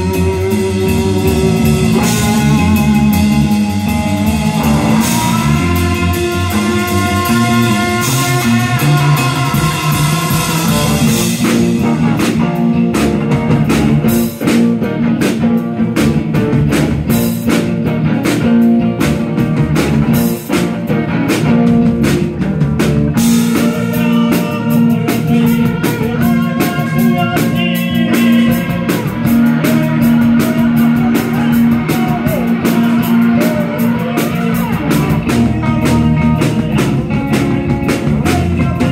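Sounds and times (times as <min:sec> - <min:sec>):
drum kit: 0:00.0 - 0:38.9
electric bass: 0:00.0 - 0:38.9
electric guitar tones: 0:00.0 - 0:38.9.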